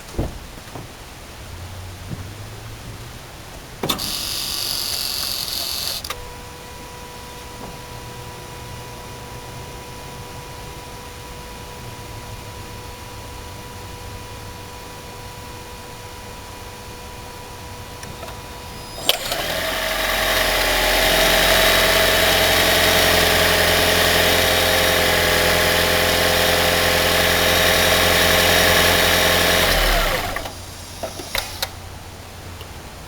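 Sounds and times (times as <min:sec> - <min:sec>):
car engine starting and running: 0:01.2 - 0:32.8
engine winding down: 0:03.9 - 0:32.0.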